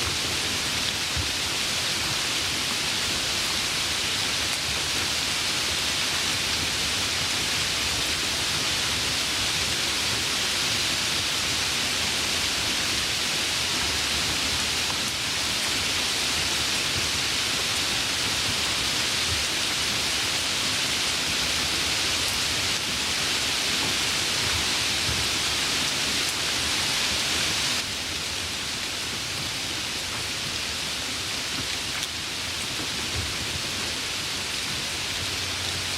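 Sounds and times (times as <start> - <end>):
dense rainfall hiss: 0.0 - 35.9.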